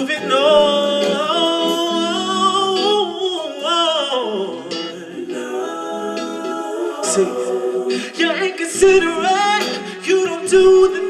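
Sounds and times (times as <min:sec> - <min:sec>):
backing vocal harmony: 0:00.0 - 0:11.0
person singing wordless notes: 0:00.0 - 0:11.0.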